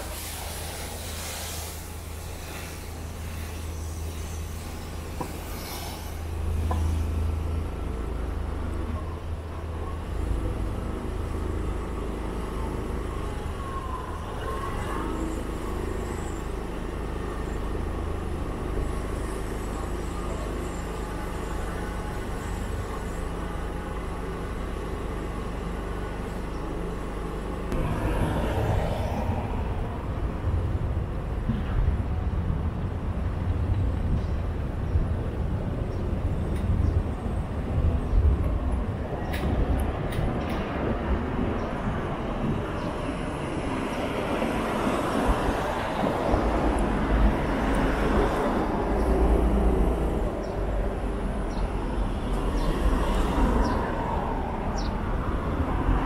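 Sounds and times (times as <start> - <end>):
rumble of passing vehicles: 0.0 - 56.0.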